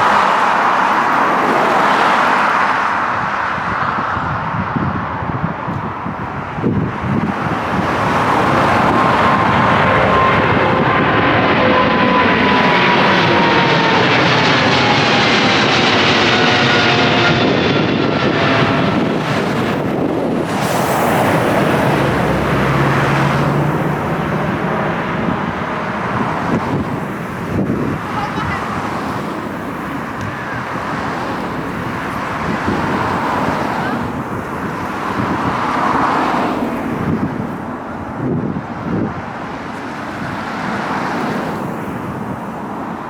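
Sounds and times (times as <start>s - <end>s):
jet airliner engine roar: 0.0s - 43.0s.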